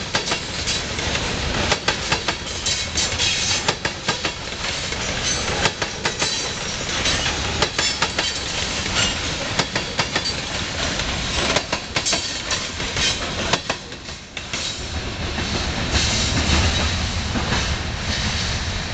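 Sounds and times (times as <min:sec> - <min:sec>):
train wheels clacking on rail joints: 0:00.0 - 0:18.4
low train rumble: 0:00.0 - 0:18.9.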